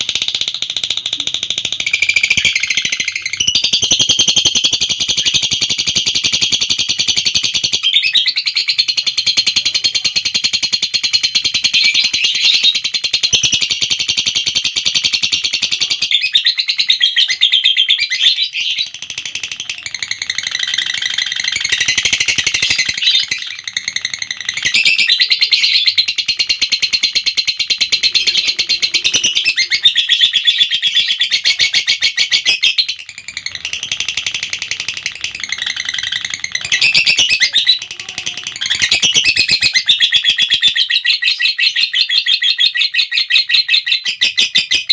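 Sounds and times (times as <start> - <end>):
lovebird chattering trill: 0.0 - 44.9.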